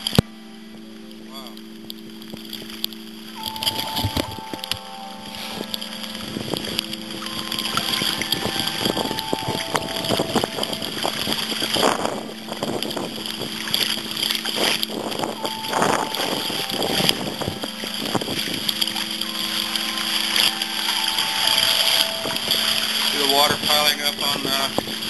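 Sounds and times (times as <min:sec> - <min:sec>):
wind buffeting microphone: 0:00.0 - 0:25.0
water sloshing and splashing: 0:01.4 - 0:25.0.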